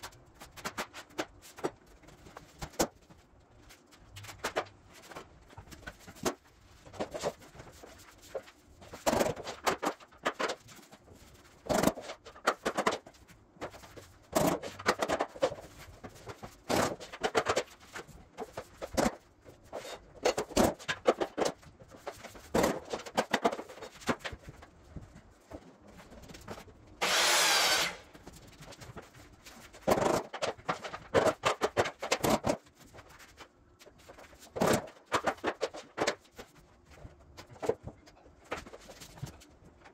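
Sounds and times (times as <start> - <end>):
floor planks tapping and clicking: 0.0 - 26.8, 28.0 - 39.9.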